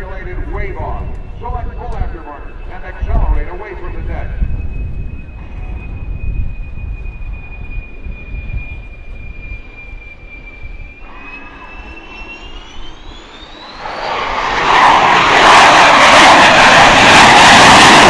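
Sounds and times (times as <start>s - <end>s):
jet engine roar: 0.0s - 18.0s
jet engines whining and rumbling: 0.0s - 18.0s.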